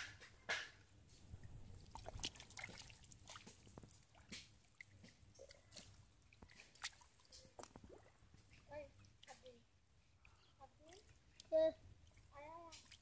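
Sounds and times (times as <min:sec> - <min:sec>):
mud squelching and dripping: 0:00.0 - 0:13.0.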